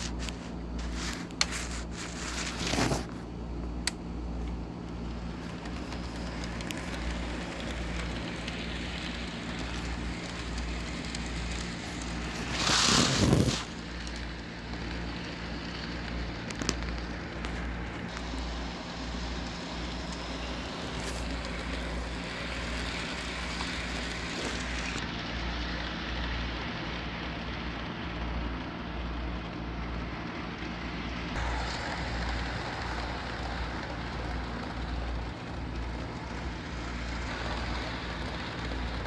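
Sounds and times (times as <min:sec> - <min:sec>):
low motor hum: 0:00.0 - 0:39.0
model train wheels rumbling: 0:00.0 - 0:39.0.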